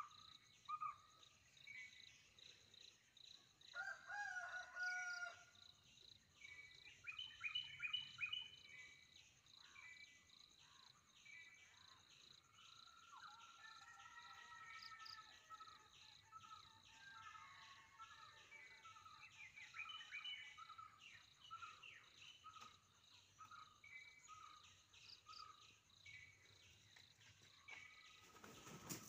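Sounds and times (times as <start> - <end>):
insects chirping: 0.0 - 29.0.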